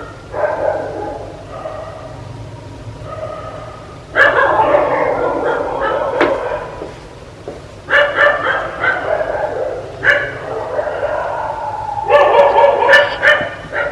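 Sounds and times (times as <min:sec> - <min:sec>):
dog barking: 0:00.0 - 0:02.2, 0:03.0 - 0:06.9, 0:07.9 - 0:13.9.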